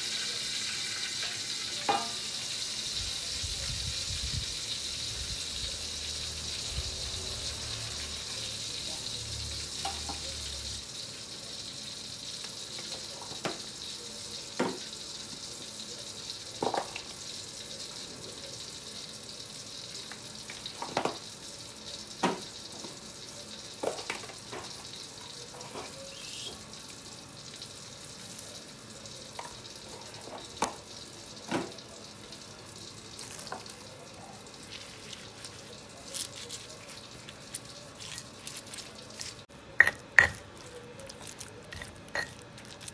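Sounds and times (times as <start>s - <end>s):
hot oil sizzling: 0.0s - 42.9s.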